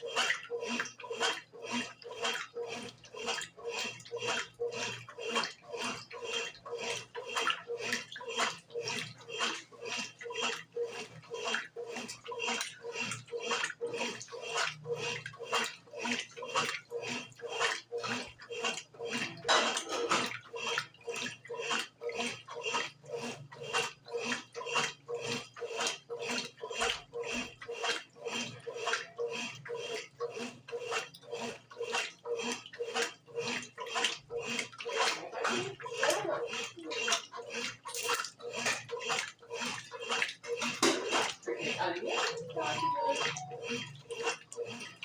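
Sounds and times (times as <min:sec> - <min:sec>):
motor hum: 0:00.0 - 0:45.0
washing machine sloshing: 0:00.0 - 0:45.0.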